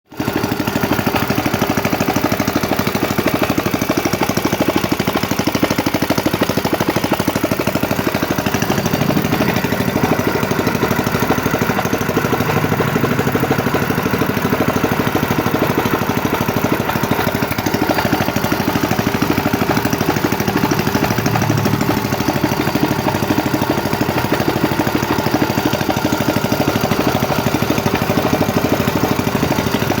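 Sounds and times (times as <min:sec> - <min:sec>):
gasoline engine running: 0:00.1 - 0:30.0.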